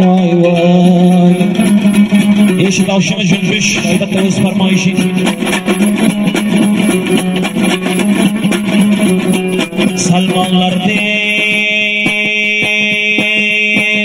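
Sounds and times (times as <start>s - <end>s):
lute strummed fast: 0.0s - 14.0s.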